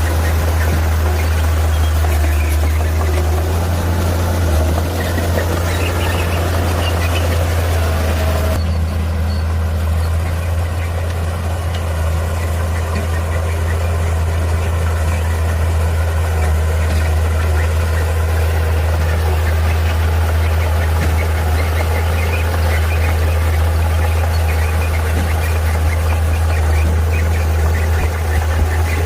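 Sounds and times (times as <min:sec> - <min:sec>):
heavy machine engine humming: 0:00.0 - 0:29.0.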